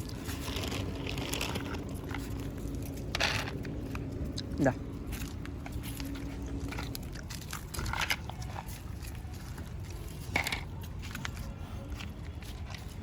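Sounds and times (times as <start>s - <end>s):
dogs crunching and chewing food: 0.0s - 13.0s
low background rumble: 0.0s - 13.0s.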